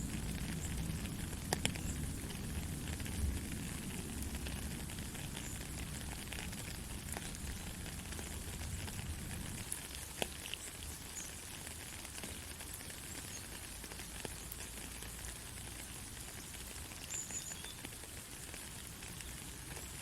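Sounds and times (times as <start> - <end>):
raindrops ticking: 0.0 - 20.0
soft rain hissing: 0.0 - 20.0.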